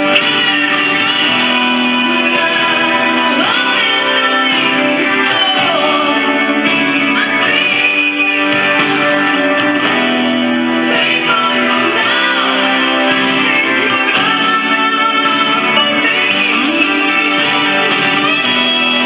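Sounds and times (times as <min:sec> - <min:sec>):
band backing: 0:00.0 - 0:19.0
electric guitar lead: 0:00.0 - 0:19.0.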